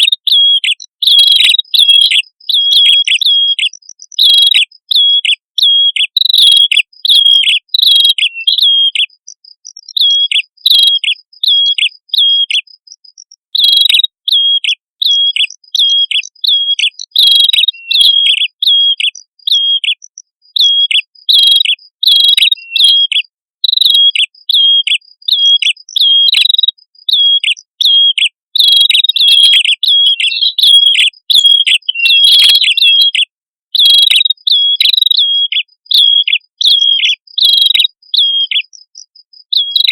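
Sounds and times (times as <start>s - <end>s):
songbirds chirping: 0.0s - 39.9s
thin rapid bird pips: 0.0s - 39.9s.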